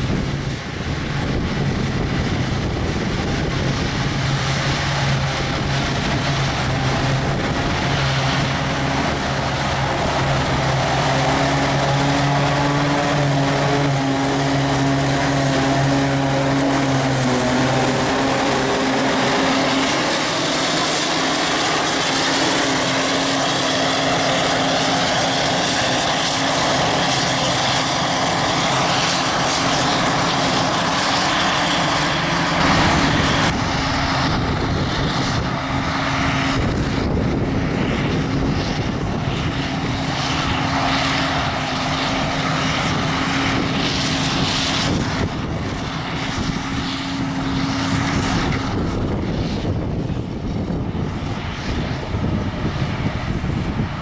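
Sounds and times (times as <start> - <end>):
forage harvester droning: 0.0 - 54.0
tractor engine: 0.0 - 54.0.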